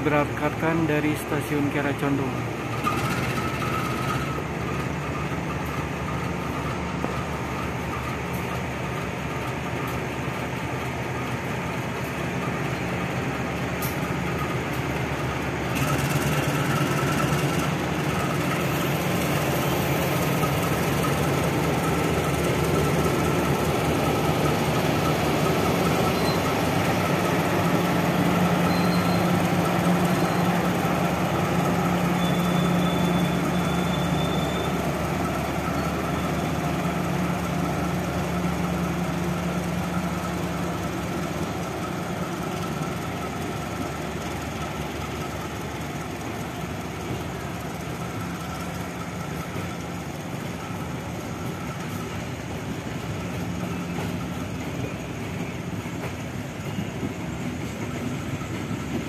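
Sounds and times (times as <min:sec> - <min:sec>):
coaches rolling on rails: 0:00.0 - 0:59.0
locomotive diesel engine running: 0:00.0 - 0:59.0.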